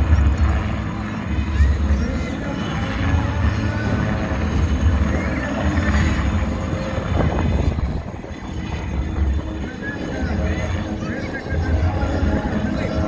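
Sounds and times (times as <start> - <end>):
helicopter rotor throbbing: 0.0 - 13.0.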